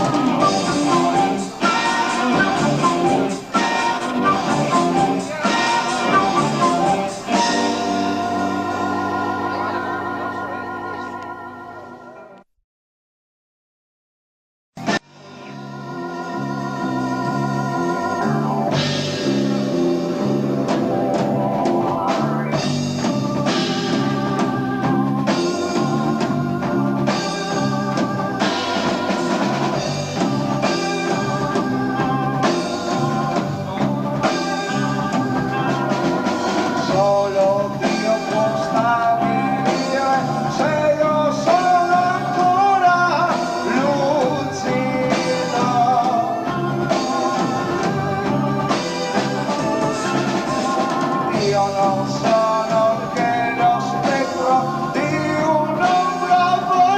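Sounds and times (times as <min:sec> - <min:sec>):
drums and cymbals: 0:00.0 - 0:09.8, 0:14.8 - 0:56.9
keyboard chords: 0:00.0 - 0:12.5, 0:14.8 - 0:56.9.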